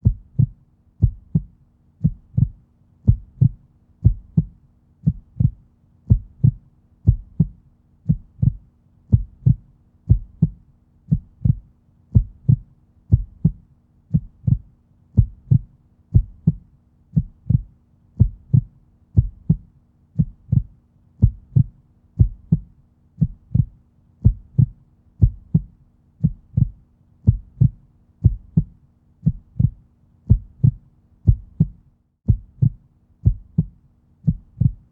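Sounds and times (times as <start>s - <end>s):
faint steady hum: 0.0s - 34.9s
heartbeat thumping: 0.0s - 34.9s.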